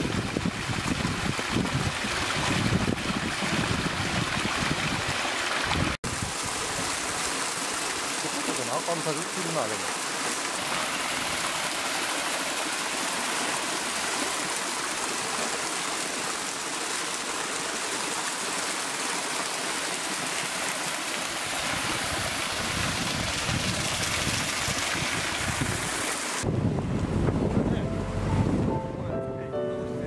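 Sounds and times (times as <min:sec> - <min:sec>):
waterfall rushing over rocks: 0:00.0 - 0:26.5.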